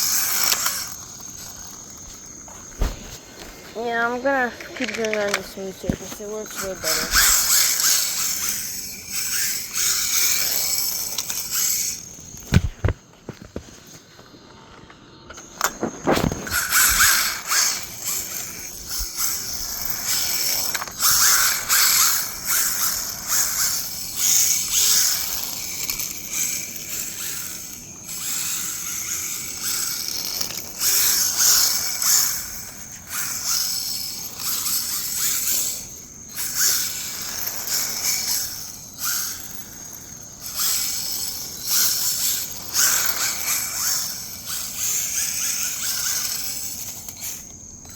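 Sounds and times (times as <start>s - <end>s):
electric toy car motor whining: 0.0s - 13.0s, 15.3s - 47.9s.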